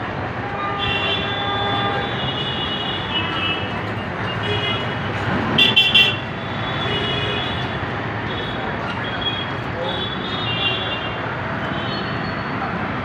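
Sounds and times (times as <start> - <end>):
street traffic noise: 0.0 - 13.0
vehicle horns honking: 0.4 - 12.4.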